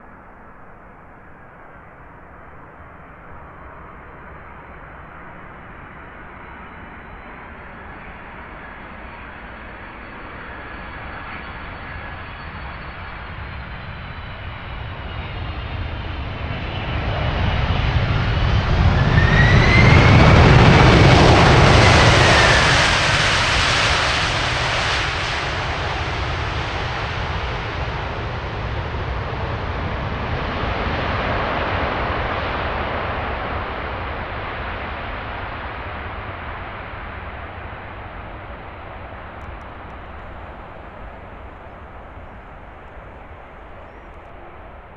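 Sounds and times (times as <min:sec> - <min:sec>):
jet airliner passing overhead: 0:00.0 - 0:44.9.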